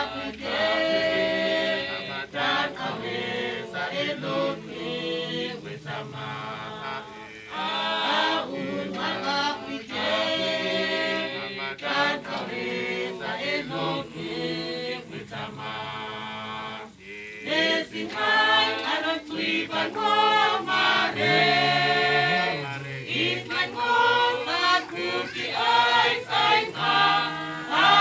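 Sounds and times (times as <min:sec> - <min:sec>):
people singing unaccompanied: 0:00.0 - 0:28.0.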